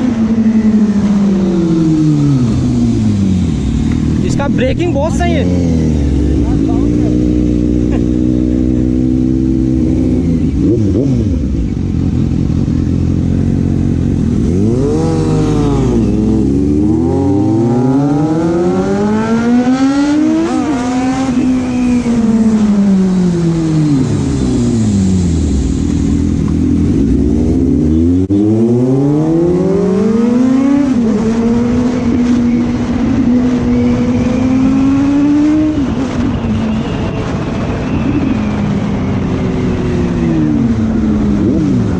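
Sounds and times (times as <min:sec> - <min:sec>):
motorcycle engine accelerating and cruising: 0:00.0 - 0:41.9.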